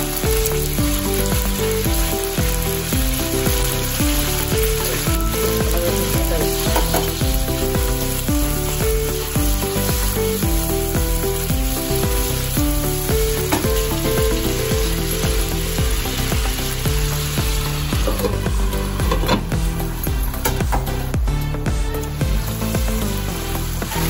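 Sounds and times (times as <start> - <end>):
spatula stirring: 0.0 - 21.2
instrumental music with bass line: 0.0 - 24.0
peppers sizzling in a pan: 0.0 - 24.0.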